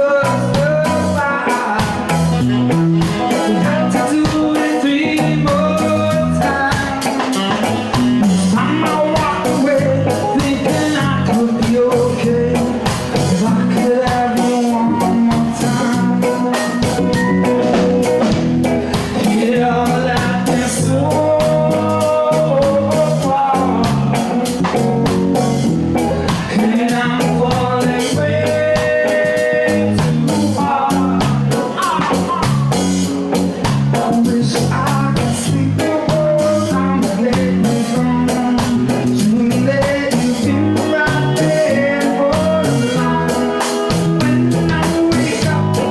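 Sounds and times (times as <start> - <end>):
live band playing reggae rock: 0.0 - 45.9
person singing: 0.0 - 45.9.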